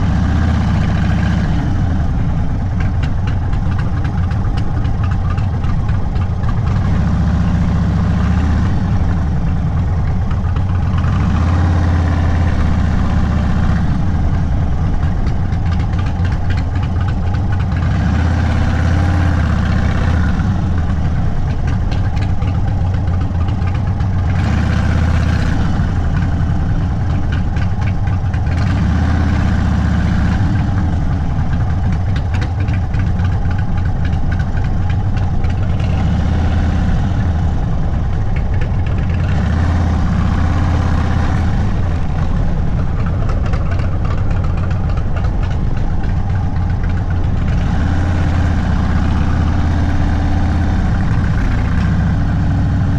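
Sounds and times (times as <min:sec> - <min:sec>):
motorcycle engine low rumble: 0:00.0 - 0:52.9.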